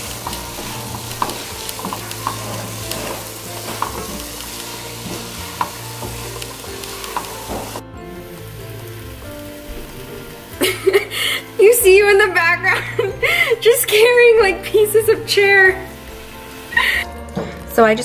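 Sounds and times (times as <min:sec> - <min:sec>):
onion sizzling in a frying pan: 0:00.0 - 0:17.8.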